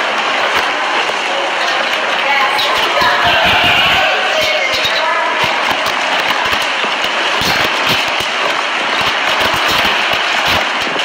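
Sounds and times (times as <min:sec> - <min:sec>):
crackle of rain strikes: 0:00.0 - 0:11.0
roaring wind and rain: 0:00.0 - 0:11.0.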